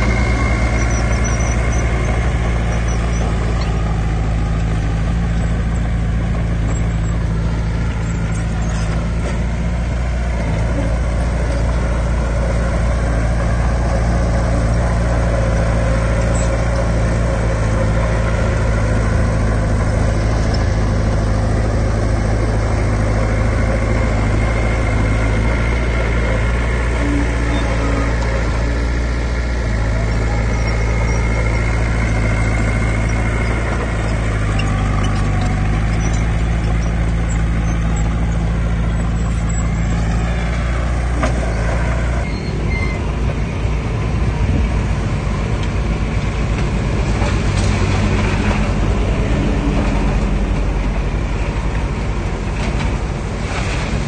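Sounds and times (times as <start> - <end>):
diesel engines of heavy machinery: 0.0 - 54.0.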